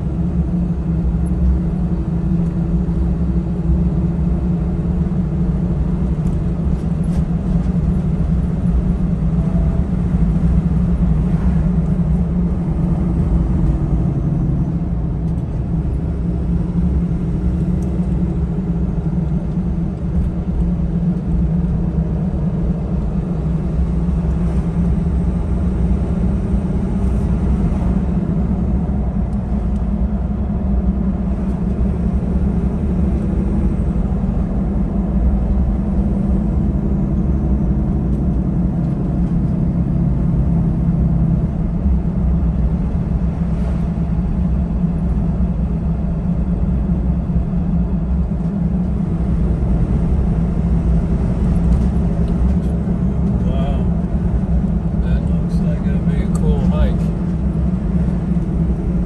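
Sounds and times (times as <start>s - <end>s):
truck engine and tyre drone in cab: 0.0s - 59.0s.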